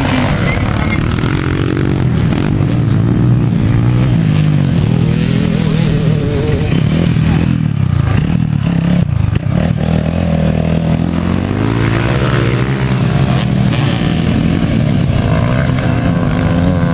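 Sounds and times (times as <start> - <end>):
motorcycle engines revving: 0.0 - 16.9.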